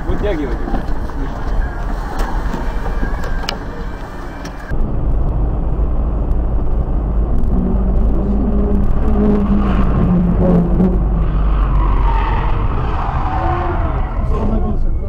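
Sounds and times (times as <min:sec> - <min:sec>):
steady engine hum: 0:00.0 - 0:15.0
vehicle road rumble: 0:00.0 - 0:15.0.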